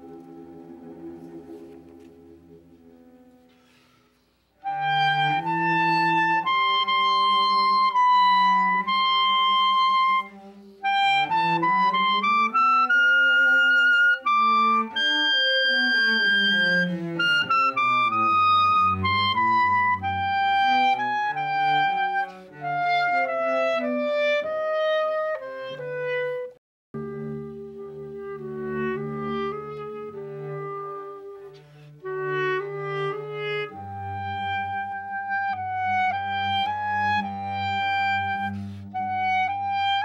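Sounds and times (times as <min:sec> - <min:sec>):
slow woodwind melody: 0:00.0 - 0:40.0.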